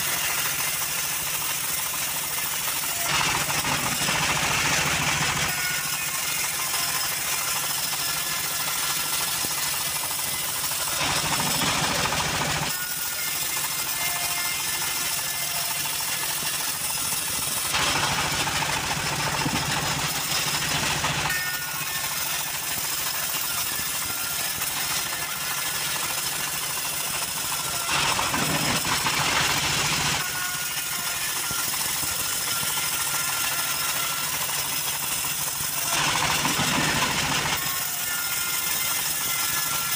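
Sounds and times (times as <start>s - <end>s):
band saw engine running: 0.0s - 39.9s
saw blade ripping through timber: 0.0s - 39.9s.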